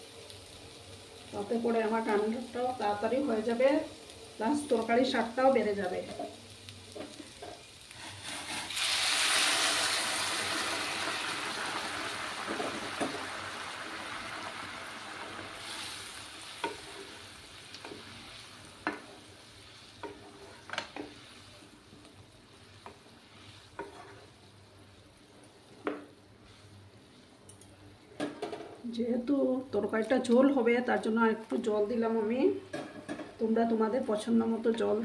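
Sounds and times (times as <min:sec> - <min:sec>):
loud sizzle in a wok: 0:00.0 - 0:35.0.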